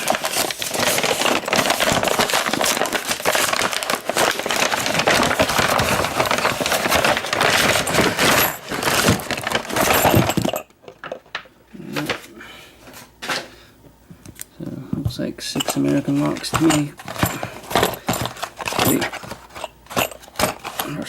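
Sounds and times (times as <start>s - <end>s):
packaging crackling and rustling: 0.0s - 12.3s, 15.6s - 21.0s.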